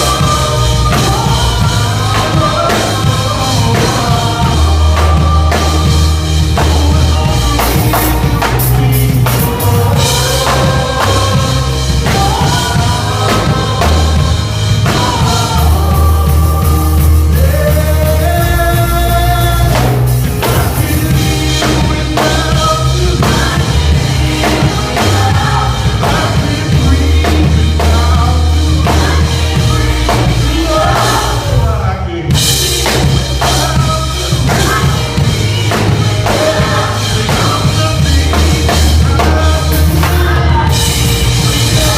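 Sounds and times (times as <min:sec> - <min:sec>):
gospel band playing: 0:00.0 - 0:41.9.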